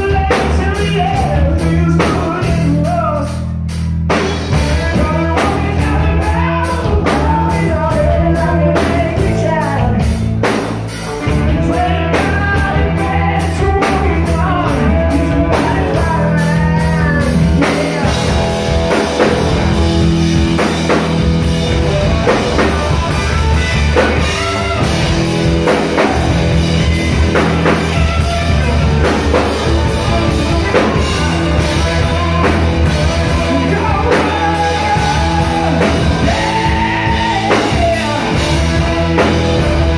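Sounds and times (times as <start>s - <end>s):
man singing: 0.0s - 3.6s, 4.4s - 10.5s, 11.1s - 39.9s
rock band playing live: 0.0s - 39.9s.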